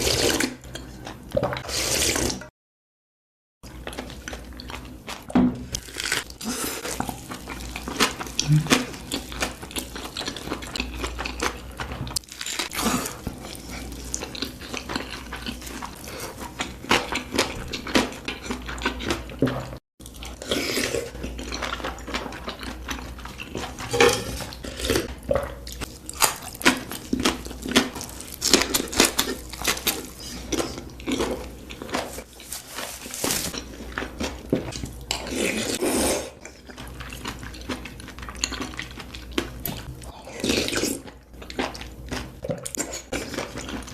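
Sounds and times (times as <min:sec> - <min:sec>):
chewing and biting food: 0:03.7 - 0:43.9.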